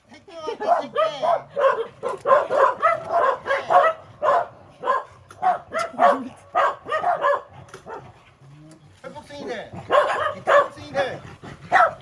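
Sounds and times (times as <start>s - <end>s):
dogs barking and yipping: 0.5s - 8.4s, 9.6s - 12.0s.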